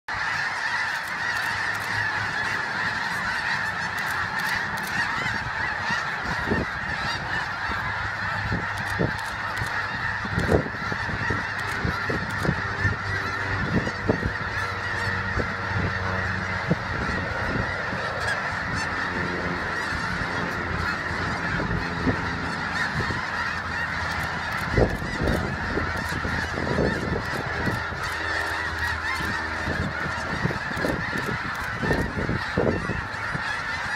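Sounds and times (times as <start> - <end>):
geese honking: 0.1 - 33.9.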